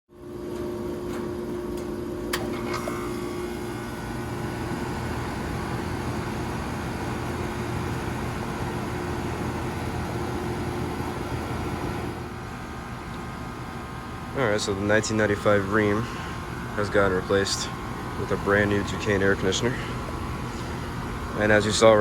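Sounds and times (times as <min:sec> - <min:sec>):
air conditioner compressor hum: 0:00.1 - 0:22.0.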